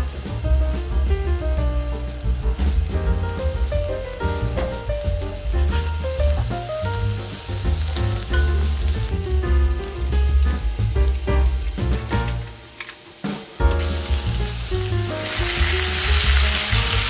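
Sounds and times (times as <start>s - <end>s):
meat sizzling on griddle: 0.0s - 1.0s, 1.7s - 17.0s
background music with bass: 0.0s - 12.7s, 13.6s - 17.0s.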